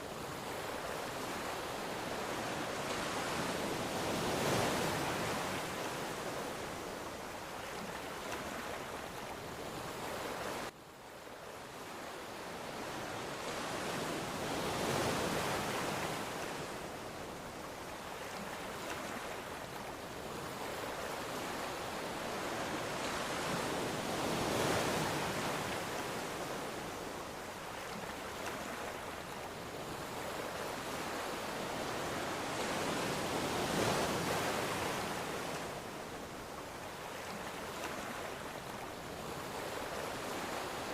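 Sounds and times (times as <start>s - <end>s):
ocean waves breaking: 0.0s - 10.7s, 12.8s - 40.9s.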